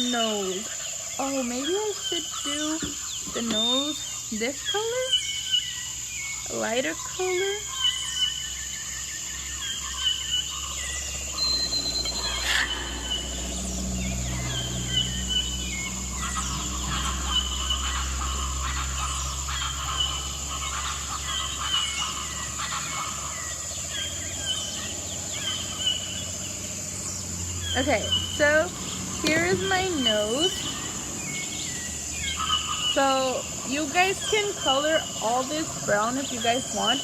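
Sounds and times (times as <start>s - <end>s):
birds chirping: 0.0s - 37.0s
high-pitched insect drone: 0.0s - 37.0s.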